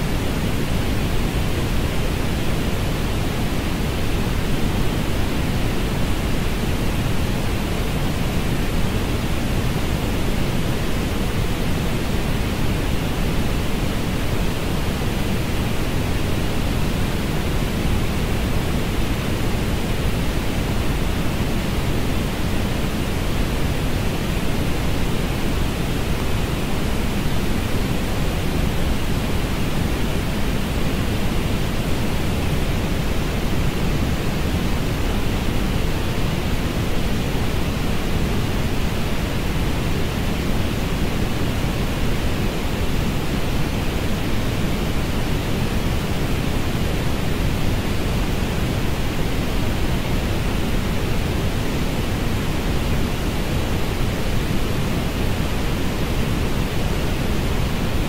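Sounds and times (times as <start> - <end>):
steady synthetic noise hiss: 0.0 - 58.0.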